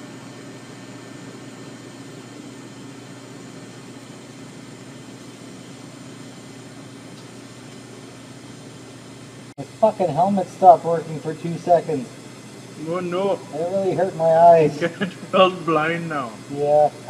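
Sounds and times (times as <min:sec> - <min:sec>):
welding arc humming and hissing: 0:00.0 - 0:17.0.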